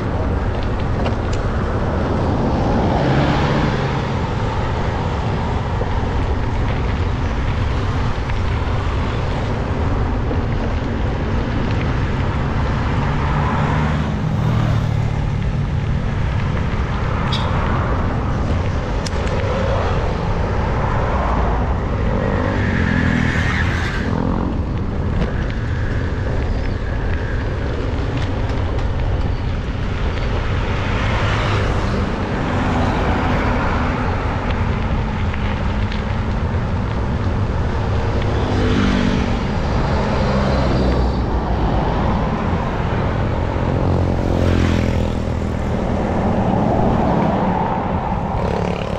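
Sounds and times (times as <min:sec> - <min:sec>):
cars and vans passing: 0:00.0 - 0:48.9.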